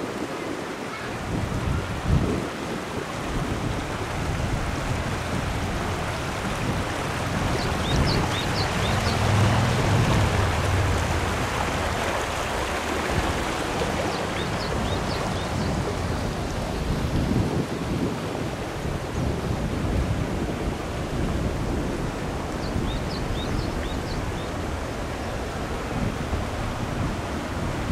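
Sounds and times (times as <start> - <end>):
stream babbling over rocks: 0.0 - 27.9
wind buffeting microphone: 0.0 - 27.9.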